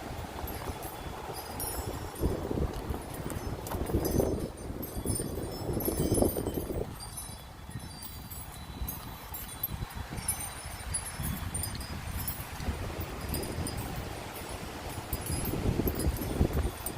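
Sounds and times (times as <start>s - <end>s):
low rumble of wind: 0.0s - 16.9s
wind chimes ringing: 0.0s - 16.9s.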